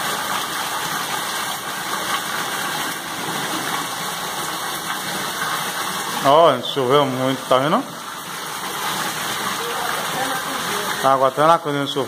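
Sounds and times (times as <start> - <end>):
rainwater rushing: 0.0 - 12.0.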